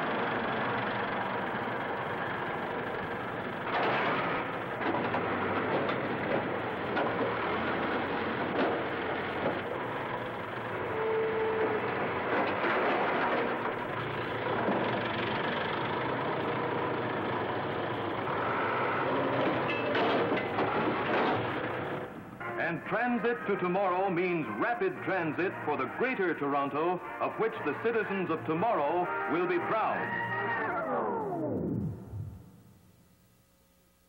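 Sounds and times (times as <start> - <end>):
backhoe diesel engine under load: 0.0 - 32.5.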